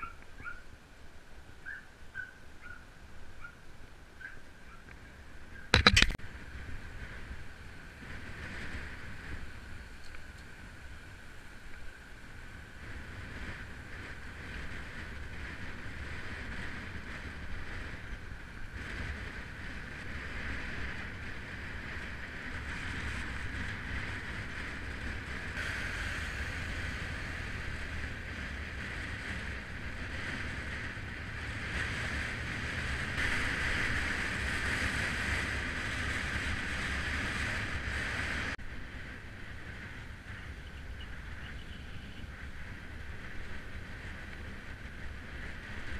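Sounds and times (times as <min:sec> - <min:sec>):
low road rumble: 0:00.0 - 0:45.9
wind rushing over microphone: 0:04.9 - 0:45.9.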